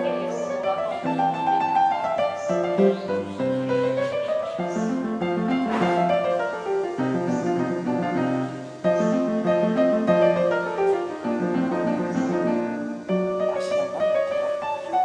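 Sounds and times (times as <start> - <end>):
piano: 0.0 - 15.0
plucked acoustic guitar tune: 0.0 - 15.0.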